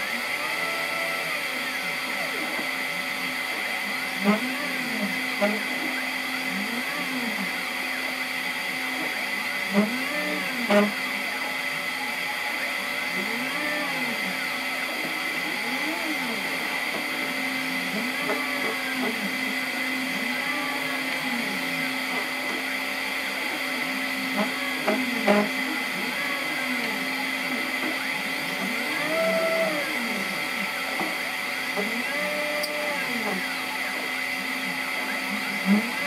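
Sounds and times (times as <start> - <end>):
cooling fan whirring: 0.0 - 36.0
stepper motors whining: 0.0 - 36.0.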